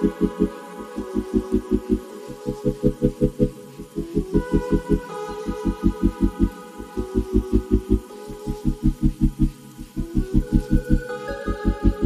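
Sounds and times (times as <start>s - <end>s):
pulsing bass beat: 0.0s - 12.0s.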